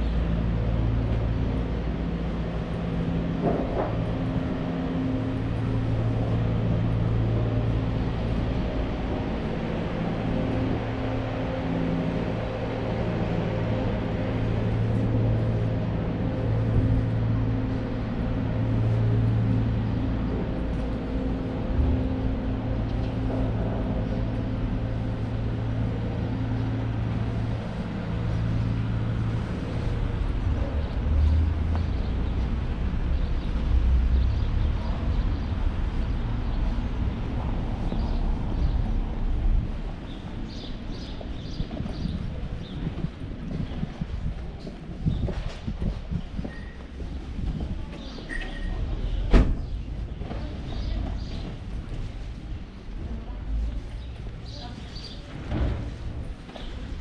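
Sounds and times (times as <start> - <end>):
engine humming: 0.0 - 57.0
street background noise: 0.0 - 57.0.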